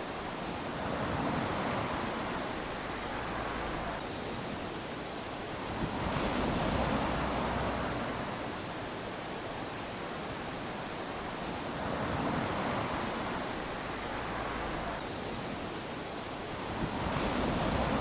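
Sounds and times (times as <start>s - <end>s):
small waves lapping on sand: 0.0s - 18.0s.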